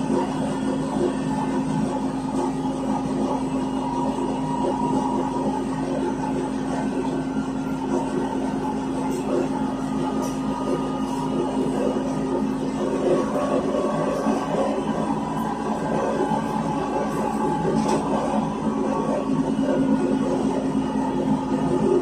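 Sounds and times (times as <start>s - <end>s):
steady machinery hum: 0.0s - 22.0s
street traffic noise: 0.0s - 22.0s.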